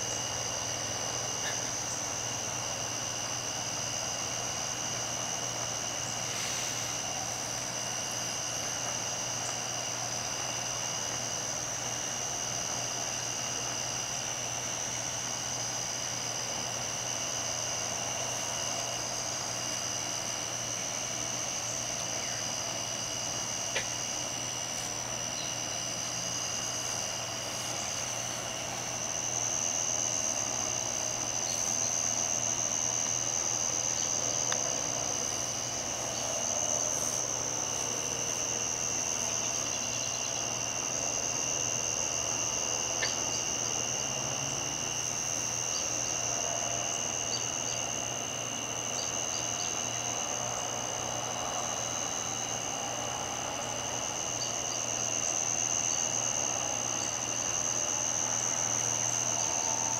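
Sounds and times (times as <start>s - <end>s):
crickets trilling: 0.0s - 59.9s
distant engine drone: 0.0s - 59.9s
weaker lower insect trill: 0.0s - 59.9s.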